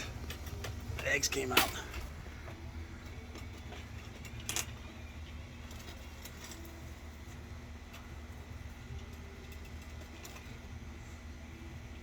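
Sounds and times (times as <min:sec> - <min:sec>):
light clinks and rattles: 0:00.0 - 0:10.8
steady low hum: 0:00.0 - 0:12.0.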